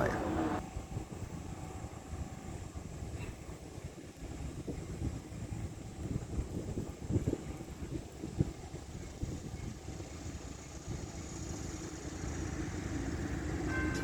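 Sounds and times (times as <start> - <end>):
distant train rumbling: 0.0 - 14.0
wind buffeting microphone: 0.0 - 14.0.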